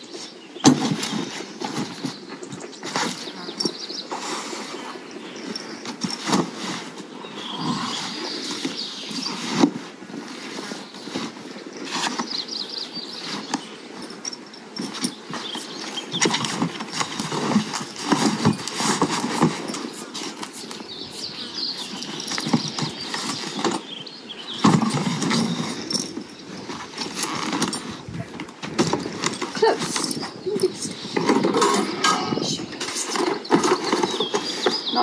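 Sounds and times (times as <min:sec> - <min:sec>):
mule hooves on asphalt: 0:00.6 - 0:31.6
knocks and clunks of packing: 0:00.6 - 0:35.0.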